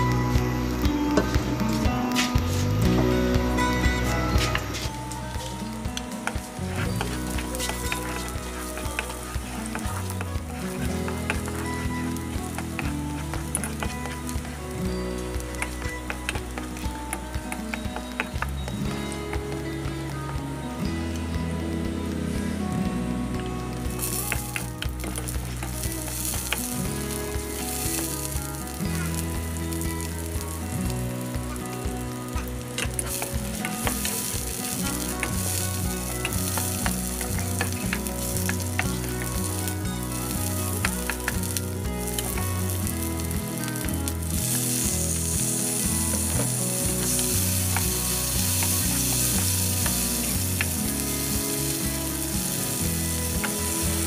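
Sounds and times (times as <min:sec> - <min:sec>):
vegetables sizzling in hot oil: 0:00.0 - 0:54.0.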